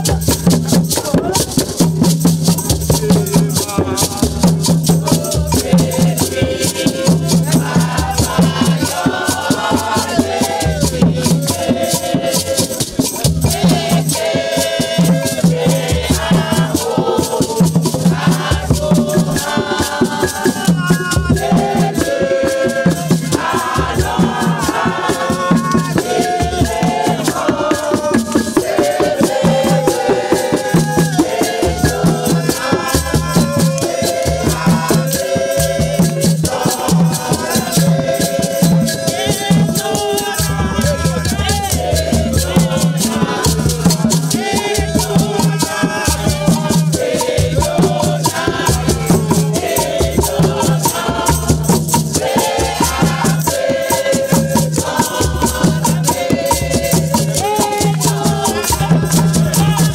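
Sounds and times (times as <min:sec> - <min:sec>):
group of people singing: 0:00.0 - 0:59.9
shaker rattle beat: 0:00.0 - 0:59.9.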